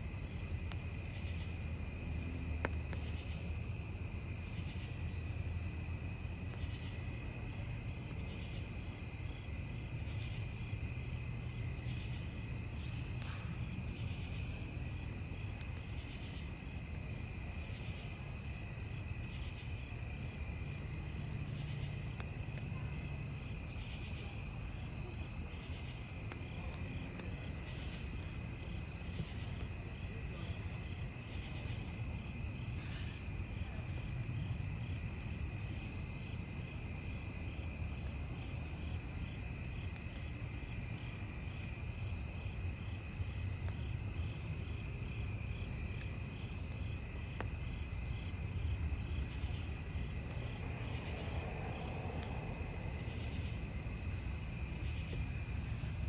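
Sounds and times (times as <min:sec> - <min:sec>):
campfire crackling: 0:00.0 - 0:56.0
crickets chirping: 0:00.0 - 0:56.0.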